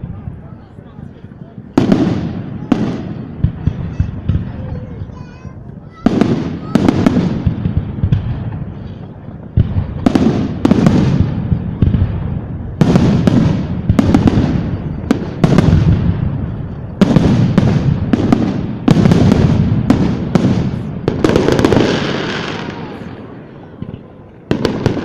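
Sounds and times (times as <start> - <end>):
fireworks bangs with rumbling echo: 0.0 - 25.0
fireworks crackling bursts: 0.0 - 25.0.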